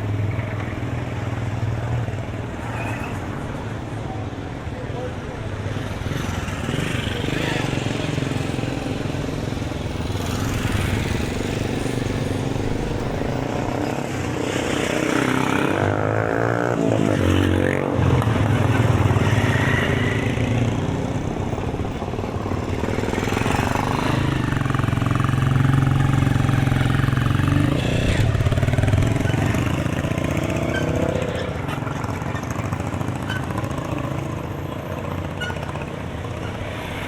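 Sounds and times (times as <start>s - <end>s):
vehicle engines running: 0.0s - 37.0s.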